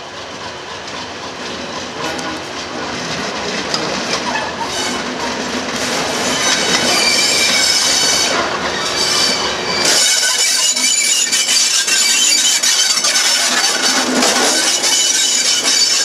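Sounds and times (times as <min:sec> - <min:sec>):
diesel locomotive engine rumble: 0:00.0 - 0:16.0
train wheel squeal: 0:02.0 - 0:16.0.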